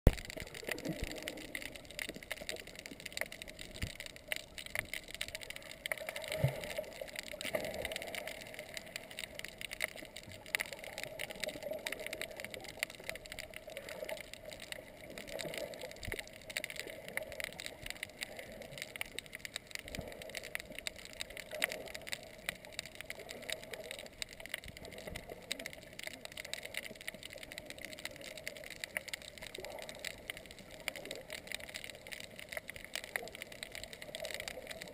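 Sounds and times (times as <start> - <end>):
fine underwater crackling: 0.0 - 34.9
muffled wash of water: 0.1 - 34.9.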